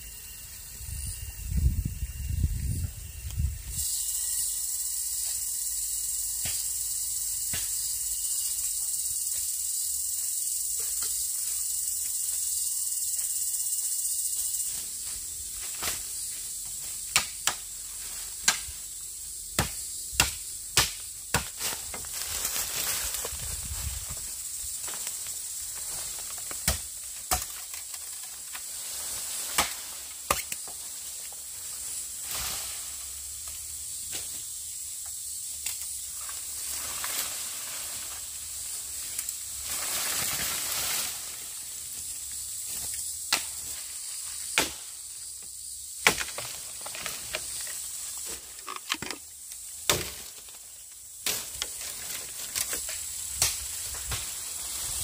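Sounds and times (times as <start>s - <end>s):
steady high-pitched hiss: 0.0s - 55.0s.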